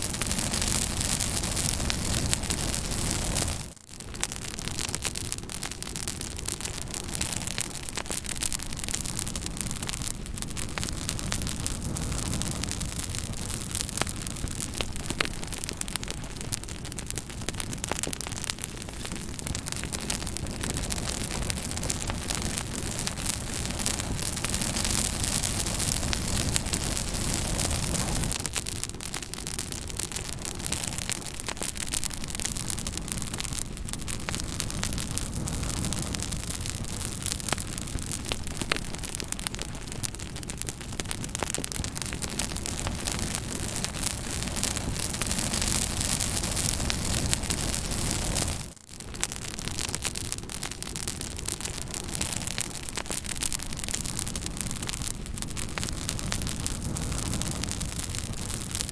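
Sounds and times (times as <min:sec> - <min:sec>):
fire crackling: 0:00.0 - 0:58.9.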